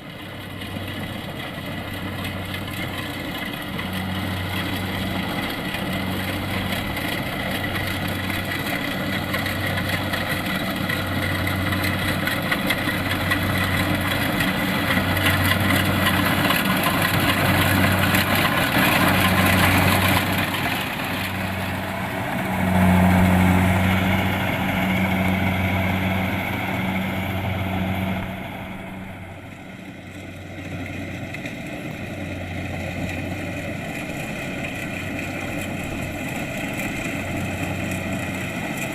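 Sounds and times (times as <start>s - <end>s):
combine harvester engine and threshing: 0.0s - 38.9s.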